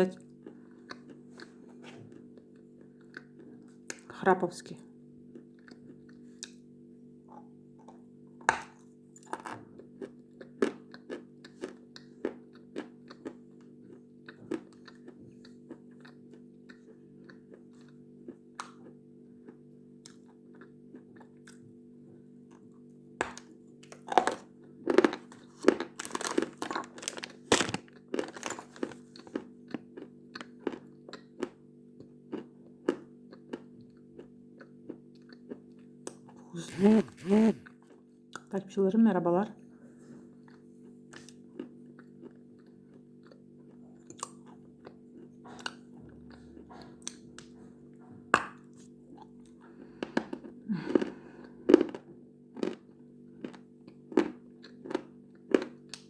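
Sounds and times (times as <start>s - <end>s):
chalk crunching while chewed: 0.2s - 4.1s, 5.3s - 6.7s, 7.3s - 21.7s, 22.5s - 38.5s, 40.2s - 56.0s.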